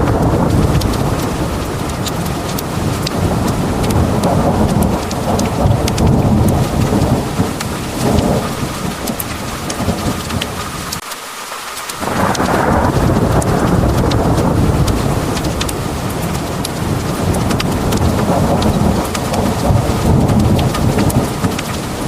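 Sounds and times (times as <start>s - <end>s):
thunder rumbling: 0.0s - 11.0s, 12.0s - 22.0s
heavy rain pouring: 0.0s - 22.0s.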